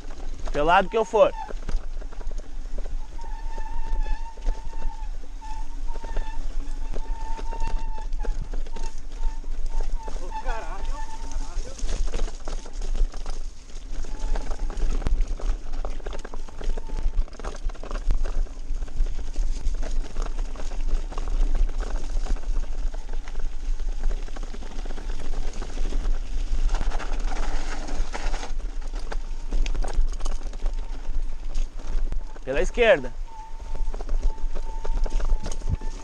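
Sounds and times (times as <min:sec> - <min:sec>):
bike rattling over rough trail: 0:00.0 - 0:36.0
wind rumble on microphone: 0:01.3 - 0:36.0.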